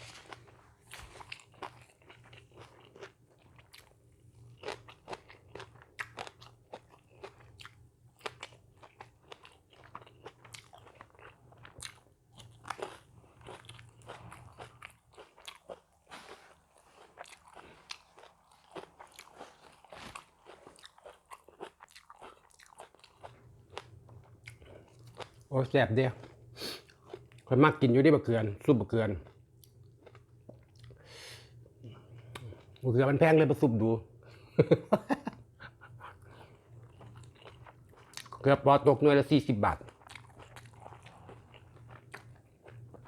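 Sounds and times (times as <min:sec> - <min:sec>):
person chewing crunchy food: 0:00.0 - 0:27.5, 0:29.1 - 0:32.8, 0:35.8 - 0:38.4, 0:39.8 - 0:43.0.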